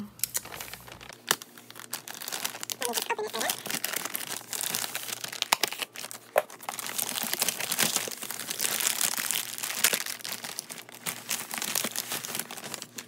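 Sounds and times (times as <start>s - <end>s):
plastic mailer crinkling: 0.4s - 13.0s.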